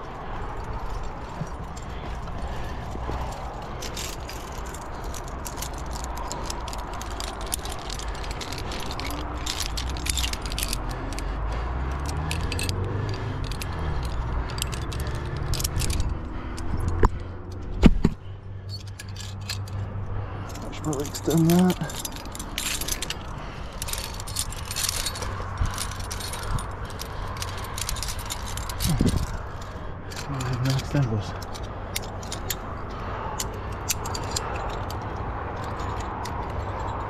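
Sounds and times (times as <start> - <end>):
carabiners clinking and jingling: 0.0 - 37.0
steady low rumble: 0.0 - 37.0.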